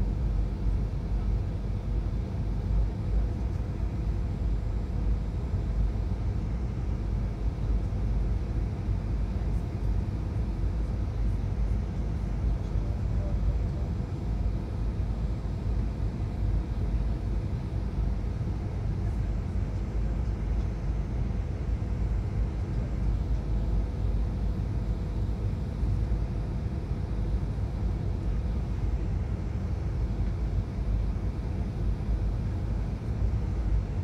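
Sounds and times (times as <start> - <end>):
airliner cabin engine rumble: 0.0 - 34.0
faint steady hum: 0.0 - 34.0.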